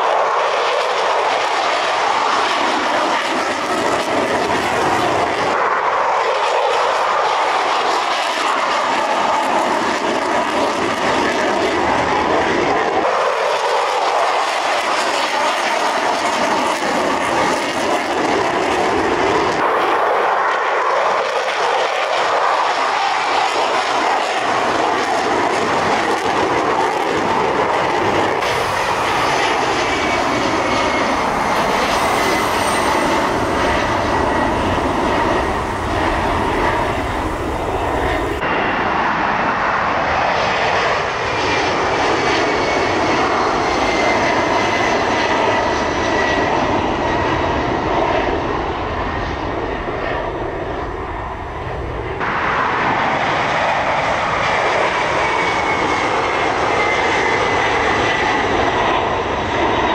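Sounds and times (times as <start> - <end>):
jet aircraft rumble and whine: 0.0 - 59.9.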